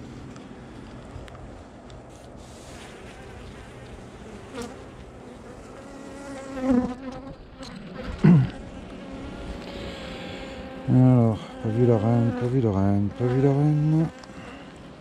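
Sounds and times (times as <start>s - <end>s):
honeybees buzzing: 2.0s - 15.0s
bee buzzing loudly close by: 2.7s - 15.0s.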